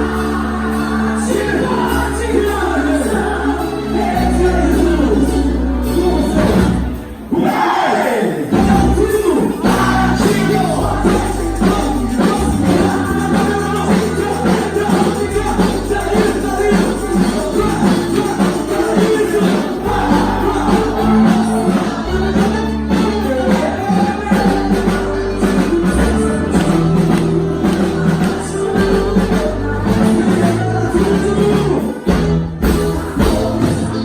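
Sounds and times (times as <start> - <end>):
singing over bass and beat: 0.0 - 34.0.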